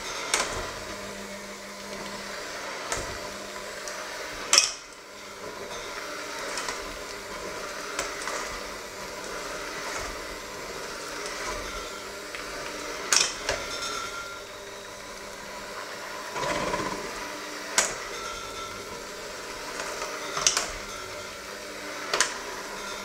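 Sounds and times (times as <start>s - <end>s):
electric hand mixer running: 0.0s - 23.0s.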